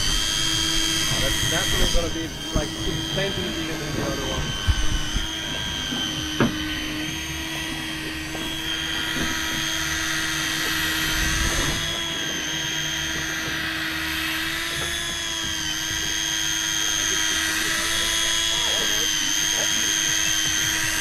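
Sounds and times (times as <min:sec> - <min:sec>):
fishing reel motor whining: 0:00.0 - 0:21.0.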